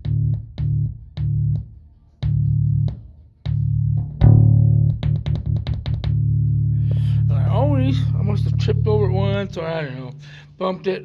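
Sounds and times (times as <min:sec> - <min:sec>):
bass guitar note cutting in and out: 0:00.0 - 0:10.6.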